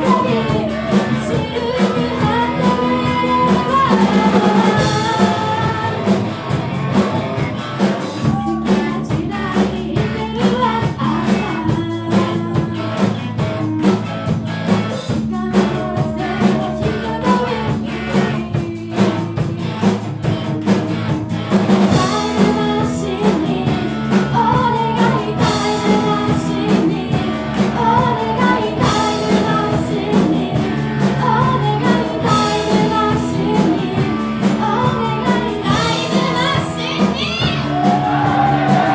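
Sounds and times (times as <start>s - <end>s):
person singing: 0.0s - 6.3s, 7.6s - 20.1s, 21.9s - 38.9s
drum kit beat: 0.0s - 38.9s
live rock band playing: 0.0s - 38.9s.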